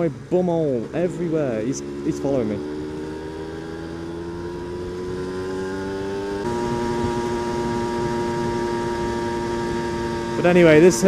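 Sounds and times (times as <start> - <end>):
two-stroke motorcycle engine revving: 0.7 - 11.0.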